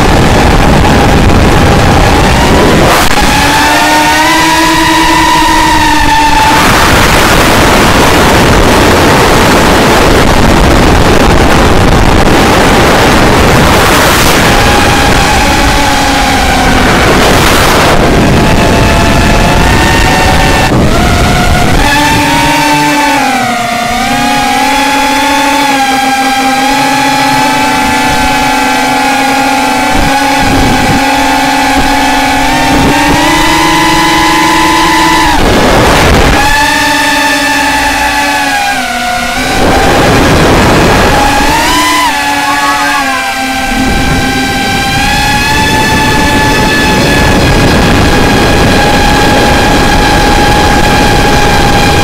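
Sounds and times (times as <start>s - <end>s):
drone prop wash and wind rush: 0.0s - 52.0s
faint motor whine: 0.0s - 52.0s.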